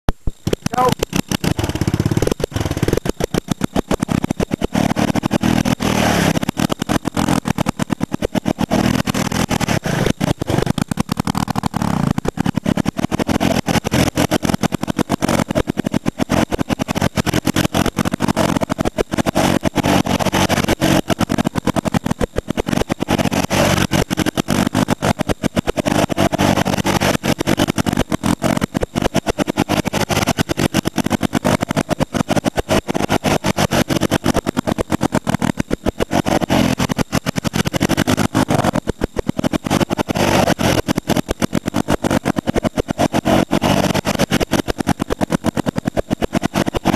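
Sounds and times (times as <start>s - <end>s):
engine revving up and down: 0.3s - 46.9s.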